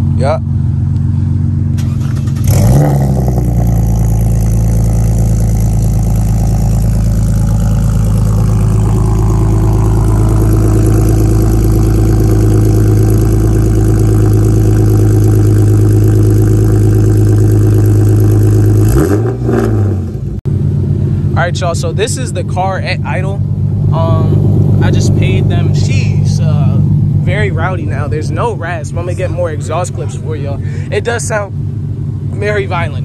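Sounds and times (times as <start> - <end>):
loud car engine idling: 0.0 - 33.0.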